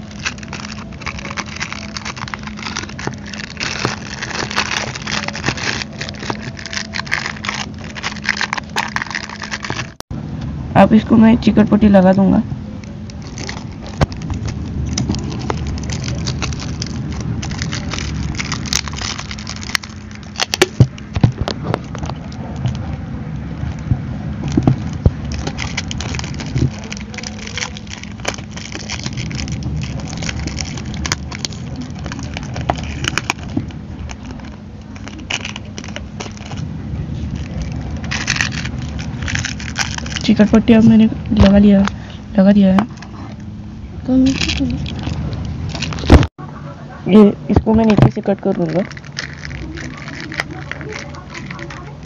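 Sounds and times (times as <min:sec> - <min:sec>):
foil and tape crinkling: 0:00.0 - 0:10.0, 0:13.1 - 0:22.9, 0:24.4 - 0:42.1, 0:44.3 - 0:46.3, 0:47.6 - 0:52.0
low rumble: 0:00.0 - 0:46.9.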